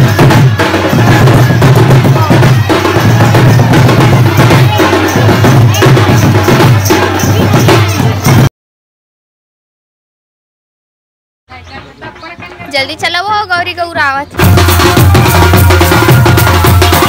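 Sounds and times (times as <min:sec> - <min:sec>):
folk drumming and percussion: 0:00.0 - 0:08.5, 0:11.5 - 0:17.0.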